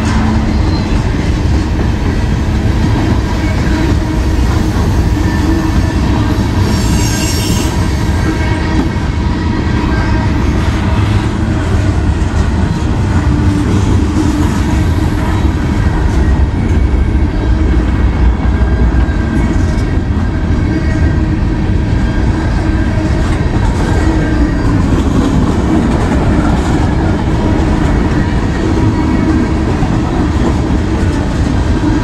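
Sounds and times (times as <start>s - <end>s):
freight train cars rolling past: 0.0s - 32.0s.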